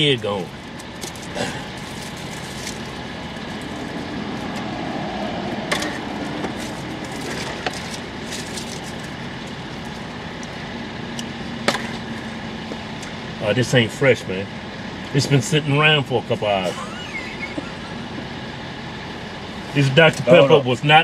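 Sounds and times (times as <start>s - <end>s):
vehicle engine idling in cabin: 0.0s - 4.8s, 5.5s - 21.0s.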